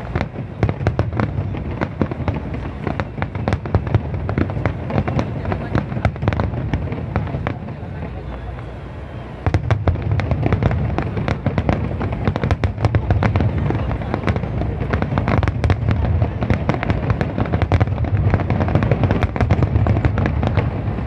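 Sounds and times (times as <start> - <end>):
fireworks crackling bangs: 0.0 - 21.0.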